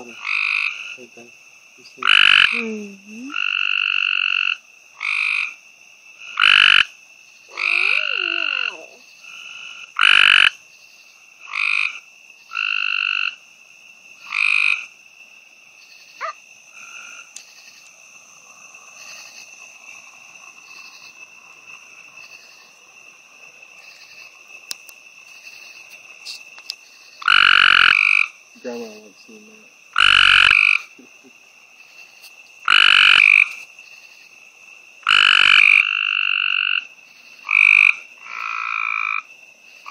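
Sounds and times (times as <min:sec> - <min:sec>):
treefrog trilling: 0:00.0 - 0:05.6, 0:06.2 - 0:13.5, 0:14.2 - 0:15.0, 0:15.7 - 0:34.4, 0:35.0 - 0:39.9.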